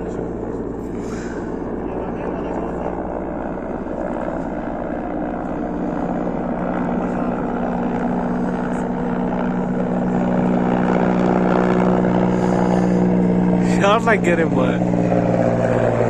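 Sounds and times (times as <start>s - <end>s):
helicopter droning: 0.0s - 16.0s.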